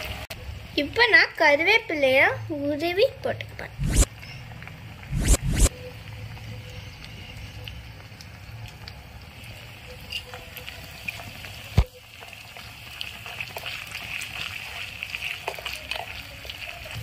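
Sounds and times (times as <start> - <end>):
onions frying in oil: 0.0 - 5.1, 5.7 - 17.0.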